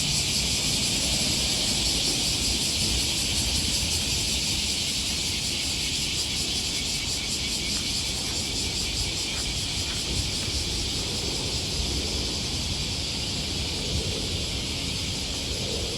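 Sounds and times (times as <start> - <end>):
cicadas droning: 0.0 - 15.9.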